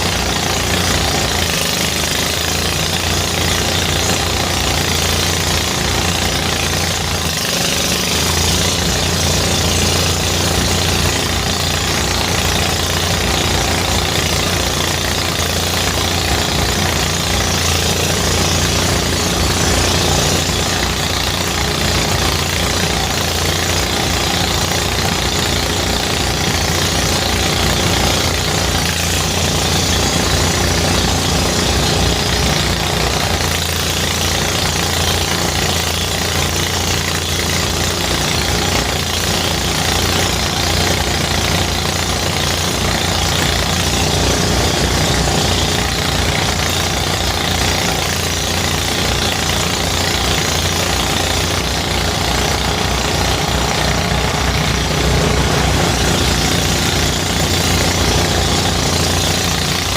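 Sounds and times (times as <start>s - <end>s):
threshing machine engine pulse: 0.0s - 59.9s.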